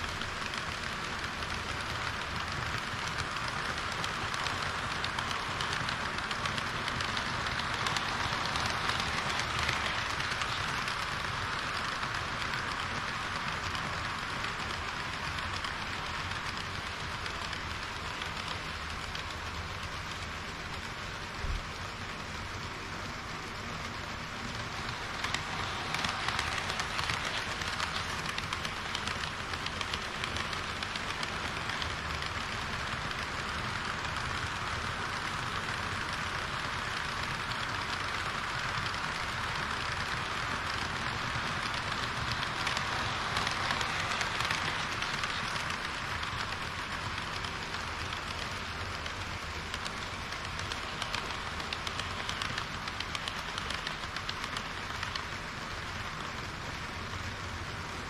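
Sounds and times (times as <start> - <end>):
model train rolling hiss: 0.0 - 58.0
wheels clicking over rail joints: 0.0 - 58.0.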